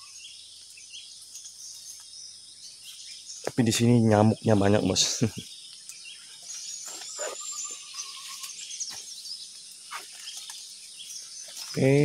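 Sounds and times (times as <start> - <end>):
birds chirping: 0.0 - 12.0
high insect drone: 0.0 - 12.0.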